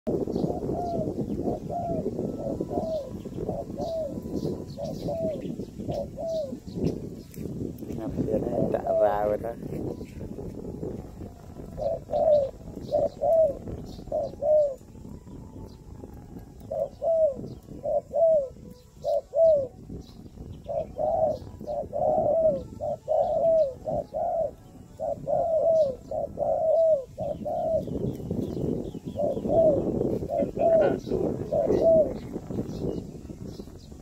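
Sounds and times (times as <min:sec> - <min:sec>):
doves cooing: 0:00.1 - 0:34.0
small birds chirping: 0:00.1 - 0:34.0.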